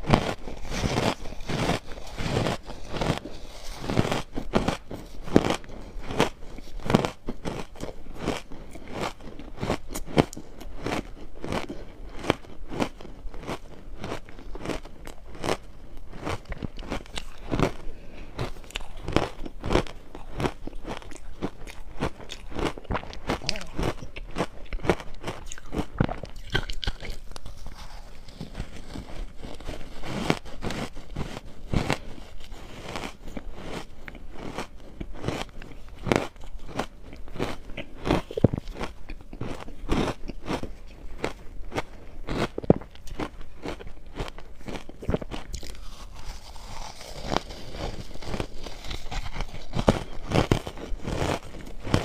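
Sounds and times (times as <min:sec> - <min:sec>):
chewing crushed ice: 0:00.0 - 0:52.0.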